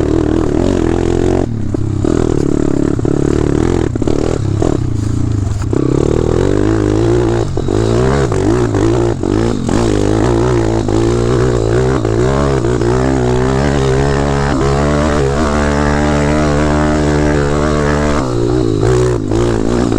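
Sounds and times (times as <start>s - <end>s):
dirt bike engine revving: 0.0s - 19.9s.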